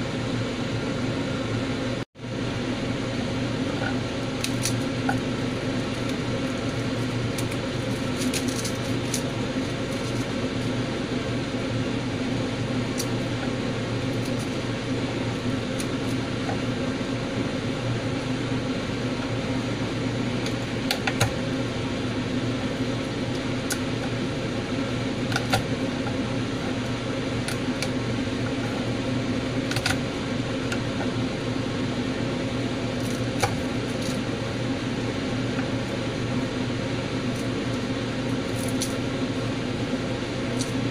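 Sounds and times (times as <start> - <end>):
low machine hum: 0.0 - 40.9.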